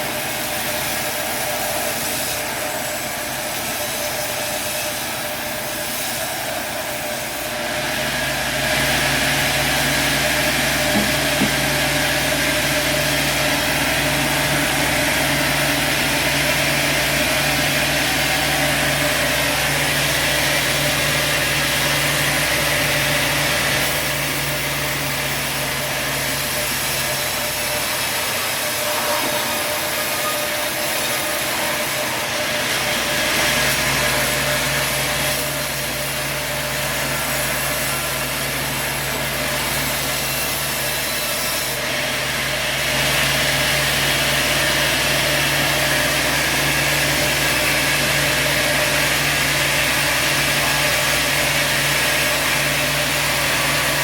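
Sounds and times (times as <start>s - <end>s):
saw and motor noise: 0.0s - 54.0s
deep machinery hum: 7.0s - 54.0s.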